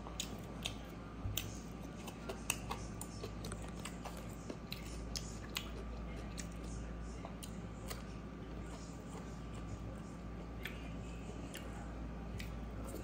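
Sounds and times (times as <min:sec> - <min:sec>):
wet chewing and lip smacks: 0:00.0 - 0:13.0.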